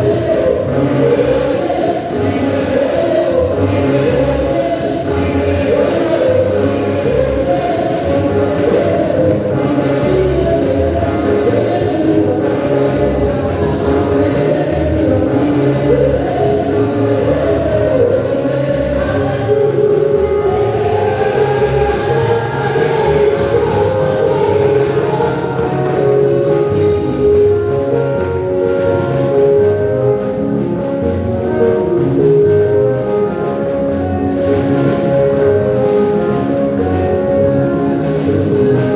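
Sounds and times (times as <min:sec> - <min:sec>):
choir singing gospel: 0:00.0 - 0:38.9
instrumental backing with bass line: 0:00.0 - 0:38.9.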